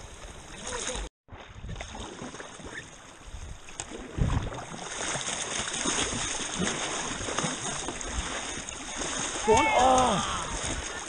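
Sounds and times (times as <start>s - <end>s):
river water rushing and splashing: 1.7s - 11.0s.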